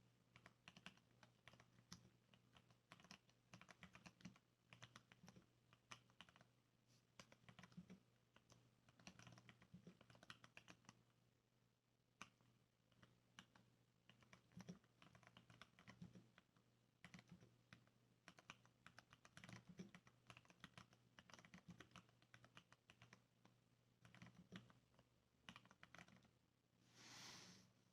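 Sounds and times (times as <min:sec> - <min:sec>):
soft mechanical keyboard typing: 0:00.3 - 0:11.2, 0:12.2 - 0:26.4.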